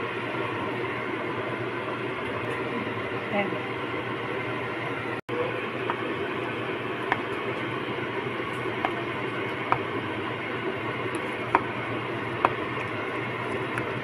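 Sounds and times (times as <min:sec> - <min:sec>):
electric whisk running: 0:00.0 - 0:14.0.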